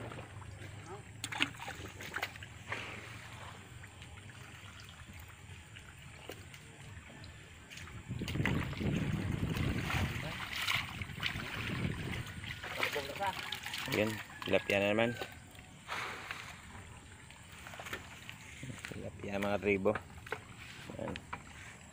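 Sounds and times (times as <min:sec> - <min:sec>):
muddy water sloshing and splashing: 0:00.0 - 0:21.9.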